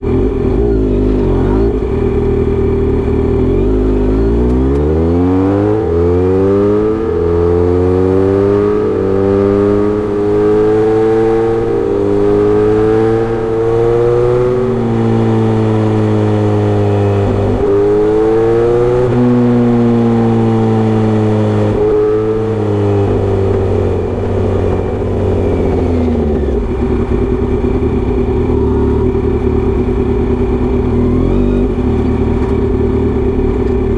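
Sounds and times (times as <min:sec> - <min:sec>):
motorcycle engine accelerating and idling: 0:00.0 - 0:33.9.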